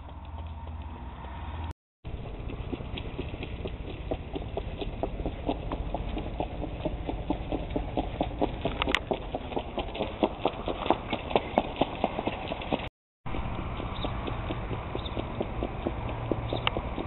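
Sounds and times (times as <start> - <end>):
horse hoofbeats on dirt: 0.0 - 1.3, 2.1 - 17.0.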